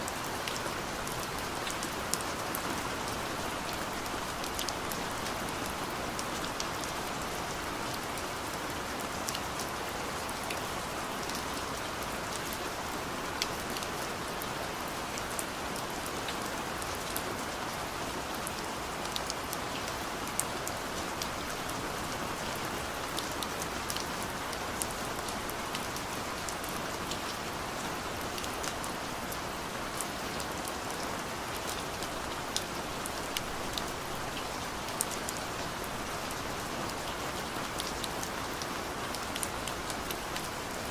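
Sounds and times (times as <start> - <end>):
rain on a car roof: 0.0 - 40.9.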